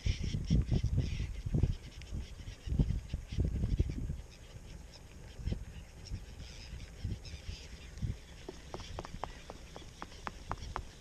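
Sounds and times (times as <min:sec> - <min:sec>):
faint seabird calls: 0:00.0 - 0:11.0
wind buffeting microphone: 0:00.0 - 0:11.0.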